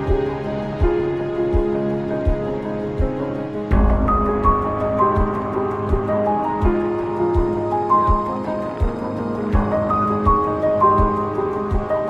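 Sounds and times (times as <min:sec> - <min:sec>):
soft low beat: 0:00.1 - 0:12.0.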